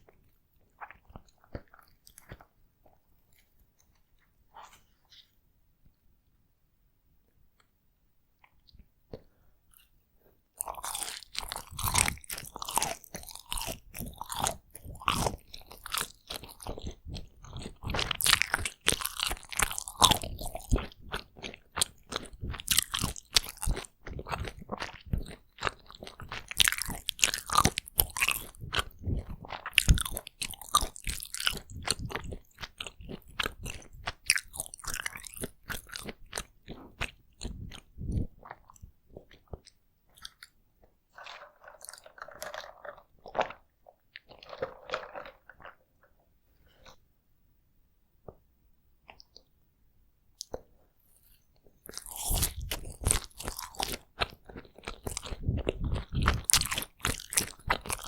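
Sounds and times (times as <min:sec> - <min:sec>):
chewing and mouth clicks: 0:00.0 - 0:05.3, 0:10.6 - 0:47.0, 0:50.4 - 0:58.0.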